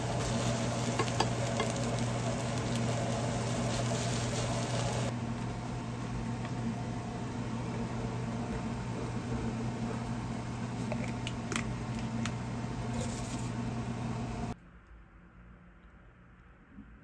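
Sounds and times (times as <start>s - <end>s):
kitchen appliance humming: 0.0s - 14.6s.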